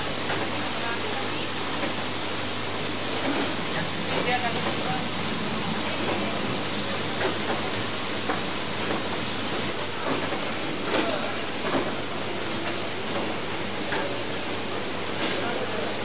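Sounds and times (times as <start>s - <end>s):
factory hall hiss and hum: 0.0s - 16.0s.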